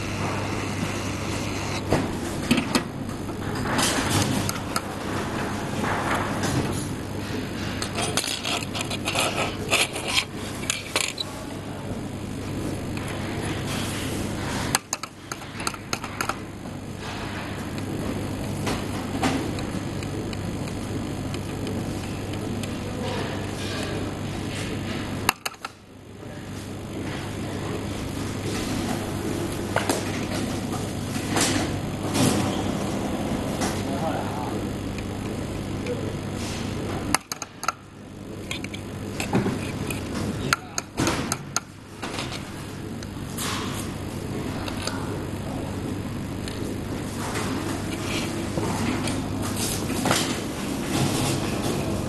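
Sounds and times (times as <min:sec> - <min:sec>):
steady hum and hiss: 0:00.0 - 0:52.0.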